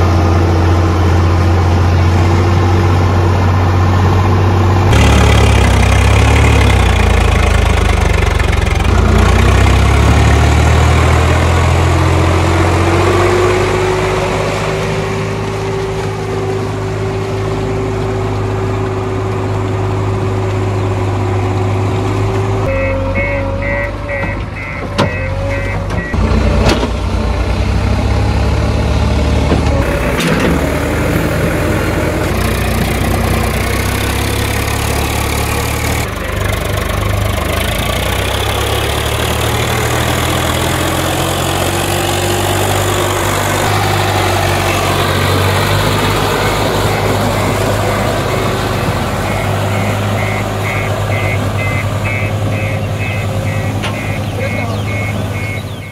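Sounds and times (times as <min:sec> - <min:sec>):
heavy diesel engines running: 0:00.0 - 0:55.9.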